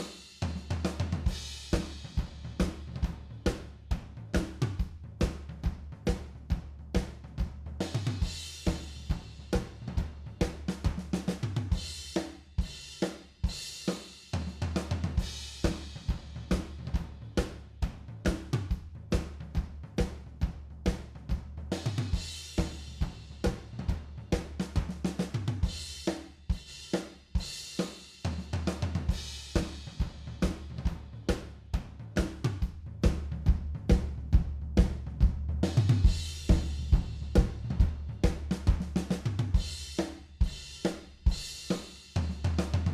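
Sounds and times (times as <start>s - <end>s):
drum kit playing fast beat: 0.0s - 42.9s.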